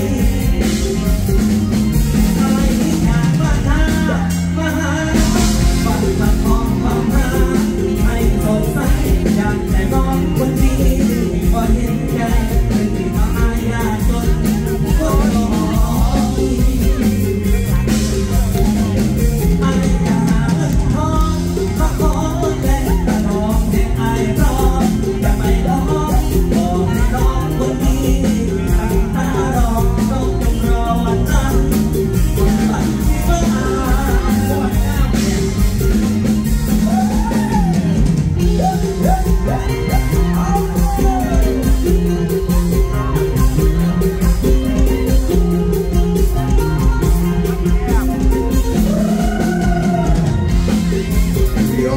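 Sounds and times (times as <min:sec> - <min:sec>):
bass: 0:00.0 - 0:51.9
drum kit: 0:00.0 - 0:51.9
live band playing: 0:00.0 - 0:51.9
man singing through amplifier: 0:00.0 - 0:51.9.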